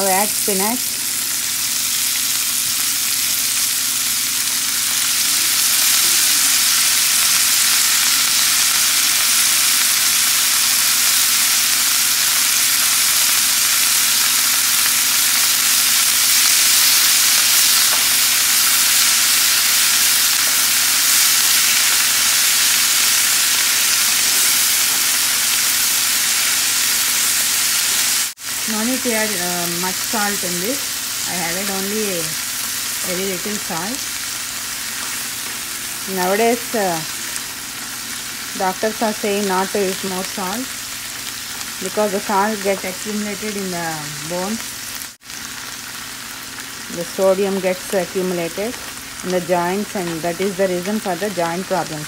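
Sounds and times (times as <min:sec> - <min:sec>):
spinach sizzling in oil: 0:00.0 - 0:52.0.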